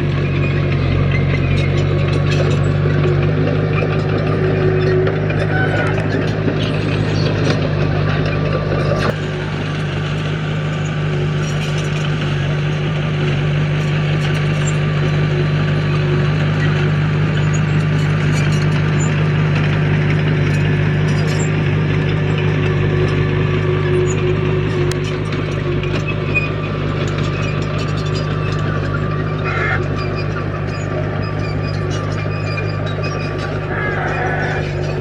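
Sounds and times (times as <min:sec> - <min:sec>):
diesel engine of heavy machine: 0:00.0 - 0:35.0.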